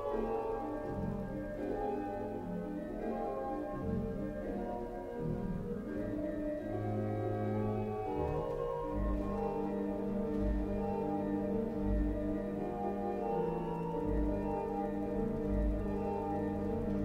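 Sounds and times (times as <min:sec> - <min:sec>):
pipe organ chords: 0:00.0 - 0:17.0.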